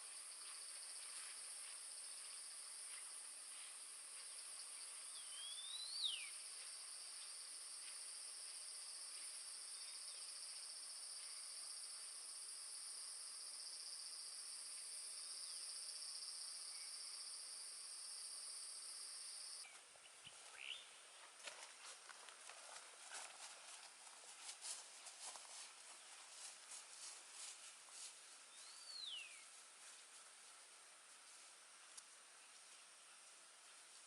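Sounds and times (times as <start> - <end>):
insect chorus: 0.0 - 19.7, 21.8 - 30.5.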